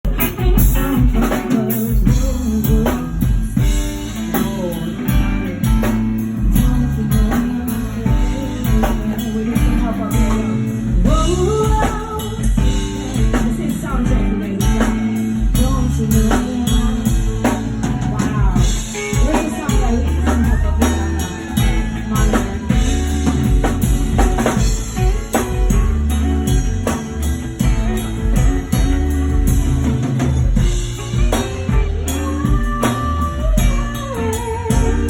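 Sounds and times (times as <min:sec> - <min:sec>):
bass: 0:00.0 - 0:35.0
drum kit beating: 0:00.0 - 0:35.0
guitar: 0:00.0 - 0:35.0
person singing: 0:00.0 - 0:35.0.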